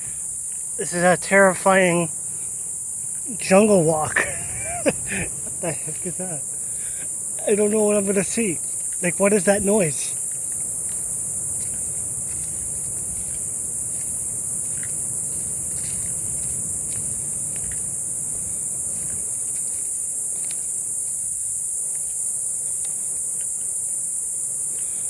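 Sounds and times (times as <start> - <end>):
jungle insects droning: 0.0 - 25.0.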